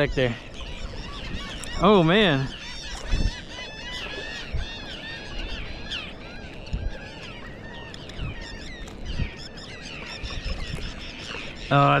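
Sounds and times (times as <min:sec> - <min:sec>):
water birds calling: 0:00.0 - 0:12.0.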